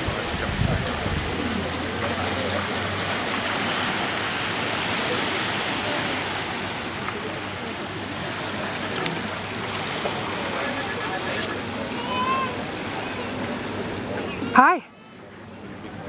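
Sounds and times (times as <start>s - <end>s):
steady rushing outdoor noise: 0.0s - 16.0s.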